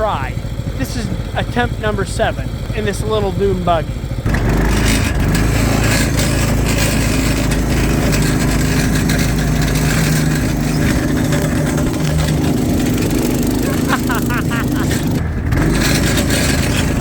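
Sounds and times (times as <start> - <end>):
dune buggy engine under load: 0.0 - 17.0.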